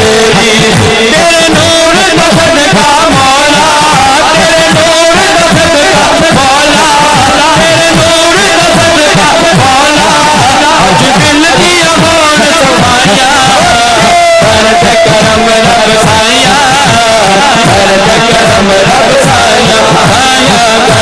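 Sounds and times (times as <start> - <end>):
man singing through microphone: 0.0 - 21.0.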